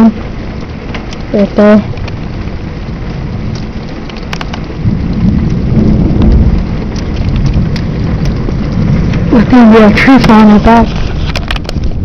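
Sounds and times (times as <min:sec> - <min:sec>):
heavy rain pouring: 0:00.0 - 0:12.0
low rumble of thunder: 0:00.0 - 0:12.0.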